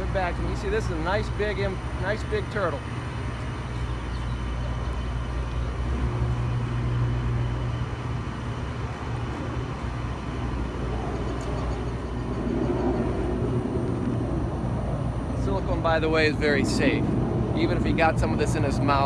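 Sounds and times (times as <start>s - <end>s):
distant engine rumble: 0.0s - 19.0s.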